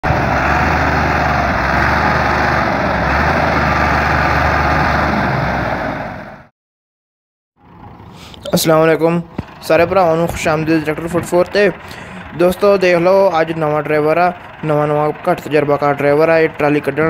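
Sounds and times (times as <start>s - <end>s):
tractor diesel engine under load: 0.0s - 6.5s, 7.6s - 17.0s.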